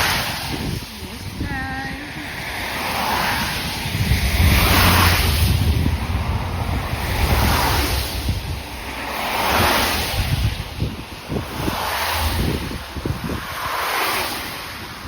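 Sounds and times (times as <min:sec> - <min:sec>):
vehicles whooshing by: 0:00.0 - 0:15.0
wind rumbling on microphone: 0:00.0 - 0:15.0.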